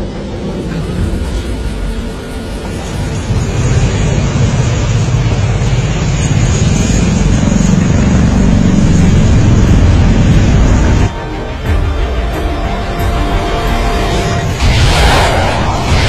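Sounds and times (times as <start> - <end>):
drone propellers running: 0.0 - 16.0.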